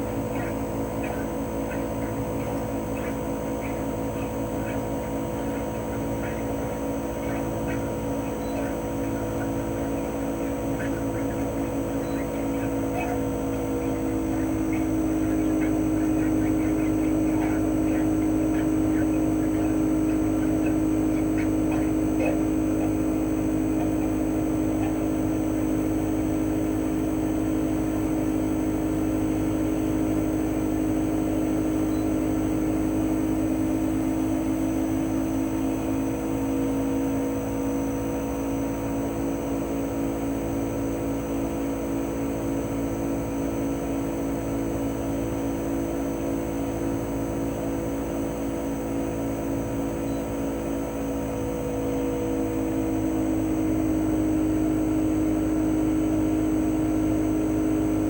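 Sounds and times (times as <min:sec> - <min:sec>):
air conditioner compressor humming: 0:00.0 - 0:58.0
propeller fan running: 0:00.0 - 0:58.0.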